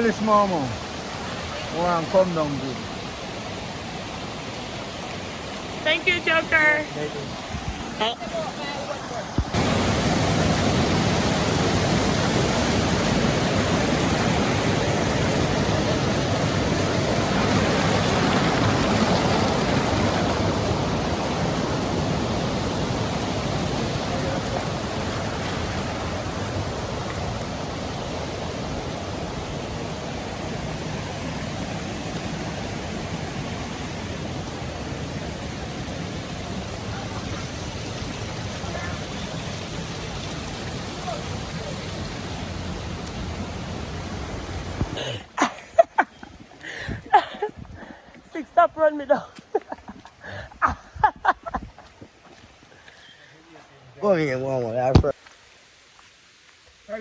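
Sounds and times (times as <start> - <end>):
river water rushing: 0.0 - 45.8.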